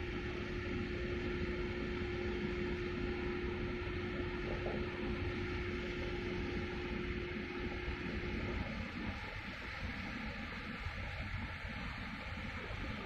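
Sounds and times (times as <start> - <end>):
constant machinery hum: 0.0 - 13.0.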